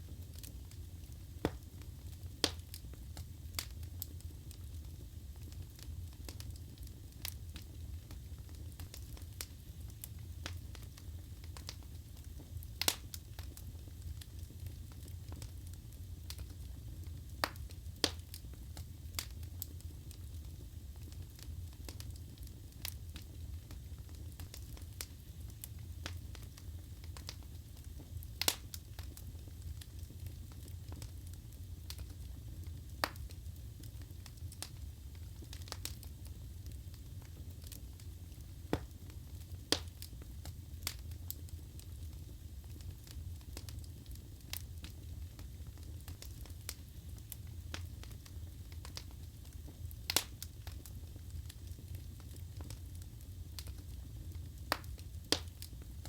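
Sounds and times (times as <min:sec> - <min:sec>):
wood fire burning and crackling: 0:00.0 - 0:56.0.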